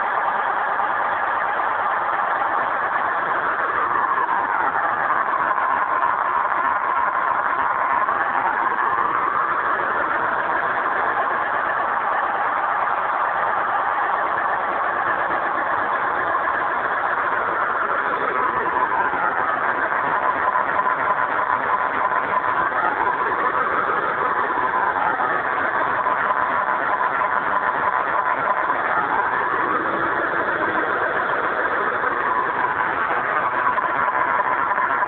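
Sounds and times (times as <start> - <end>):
electronic diesel engine sound: 0.0 - 35.0.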